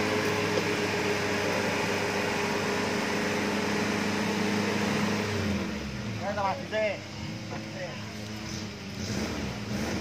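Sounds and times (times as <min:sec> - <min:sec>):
off-road vehicle engine under load: 0:00.0 - 0:10.0.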